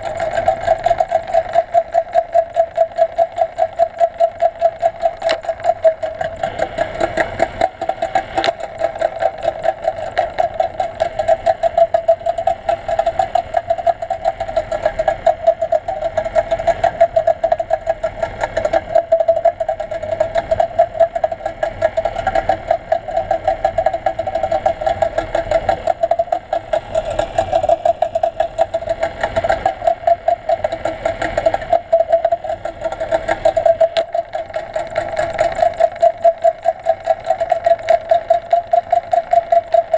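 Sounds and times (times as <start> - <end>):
motor droning underwater: 0.0 - 39.9.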